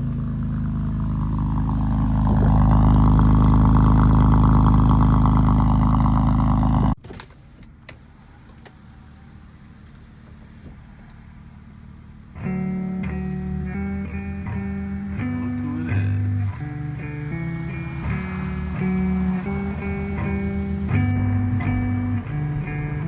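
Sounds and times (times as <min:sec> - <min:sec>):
car engine fast idle: 0:00.0 - 0:23.0.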